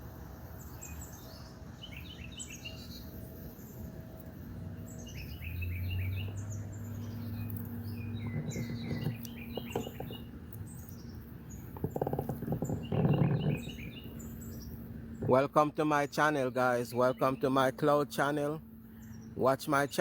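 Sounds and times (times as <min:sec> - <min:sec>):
low steady hum: 0:00.0 - 0:20.0
small birds chirping: 0:00.1 - 0:20.0.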